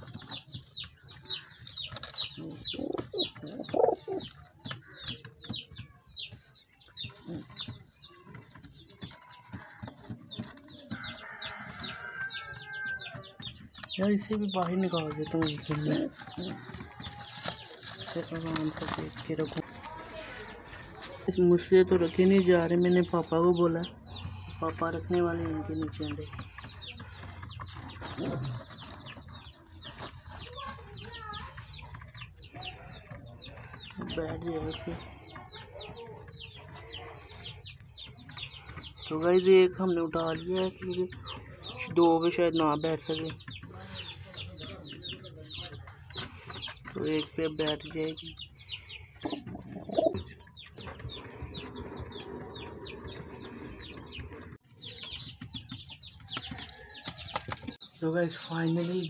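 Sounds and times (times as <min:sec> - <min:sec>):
chickens chirping: 0:00.0 - 0:59.0.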